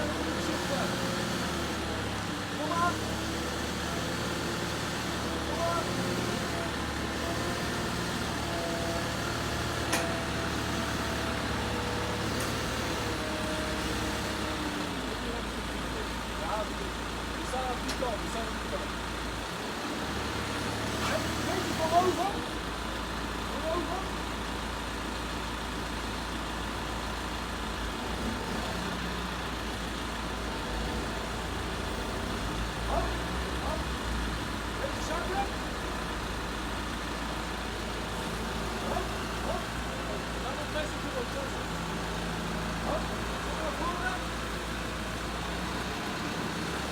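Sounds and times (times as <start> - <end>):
heavy vehicle engine running: 0.0 - 46.9.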